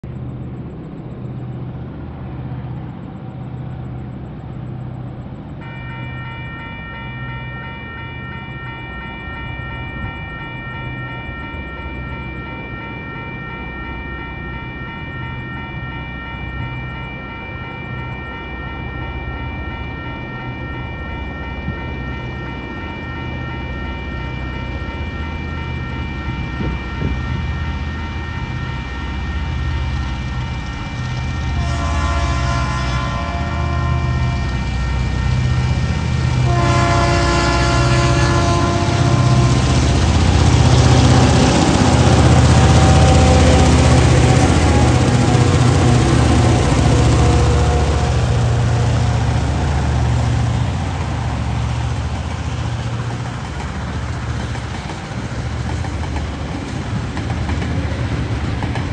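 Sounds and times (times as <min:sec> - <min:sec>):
diesel locomotive engine drone: 0:00.0 - 0:58.9
level crossing warning bell: 0:00.1 - 0:58.9.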